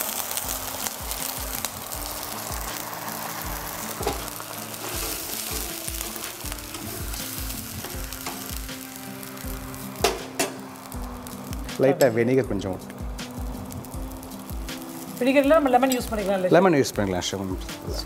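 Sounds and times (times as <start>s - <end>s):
stock hissing in a hot pan: 0.0s - 11.9s, 12.9s - 18.0s.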